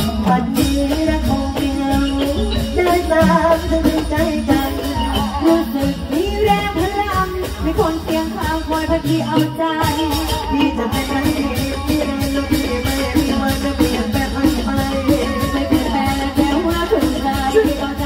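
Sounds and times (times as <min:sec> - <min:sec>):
melodic ensemble playing: 0:00.0 - 0:18.0
steady percussion beat: 0:00.0 - 0:18.0.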